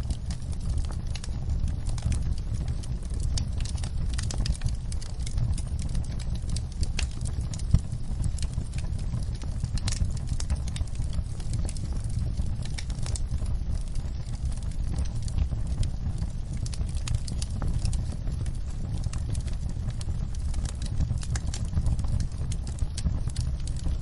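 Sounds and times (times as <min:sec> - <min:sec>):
low rumble: 0:00.0 - 0:24.0
rain pattering: 0:00.0 - 0:24.0
wood fire crackling and popping: 0:00.0 - 0:24.0.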